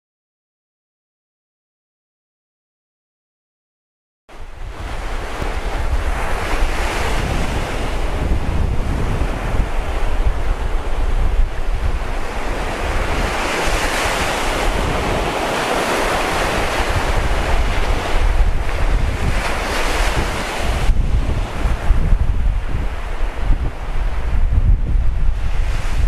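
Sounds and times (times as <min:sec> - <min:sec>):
surf breaking on a beach: 0:04.3 - 0:26.0
wind on microphone: 0:04.3 - 0:26.0.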